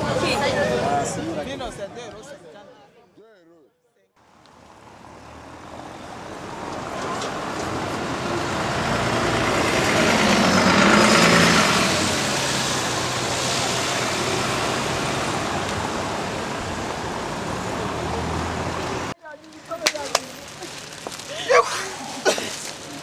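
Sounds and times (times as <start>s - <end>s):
bus passing by: 0.0s - 1.6s, 4.2s - 23.0s
street traffic noise: 0.0s - 3.0s, 4.2s - 23.0s.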